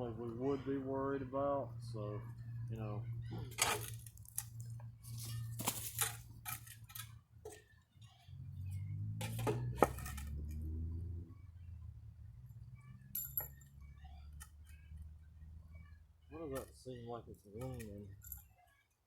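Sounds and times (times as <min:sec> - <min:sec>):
low steady hum: 0:00.0 - 0:18.4.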